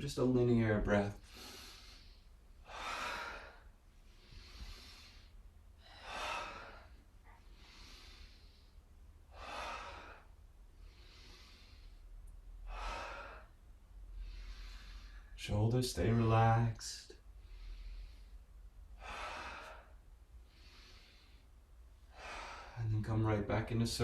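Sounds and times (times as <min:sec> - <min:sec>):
person breathing deeply: 0:01.2 - 0:15.4, 0:17.2 - 0:22.8.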